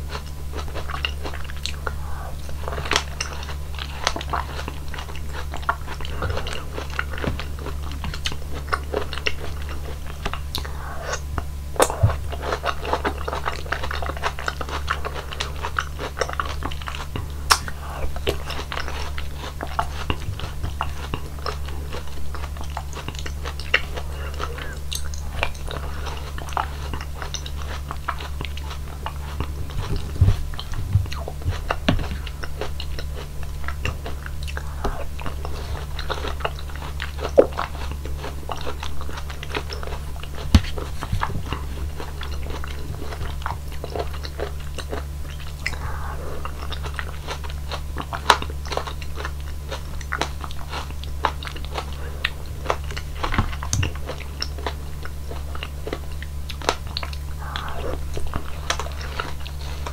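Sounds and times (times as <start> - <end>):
close-miked chewing: 0.0 - 59.9
steady low hum: 0.0 - 59.9.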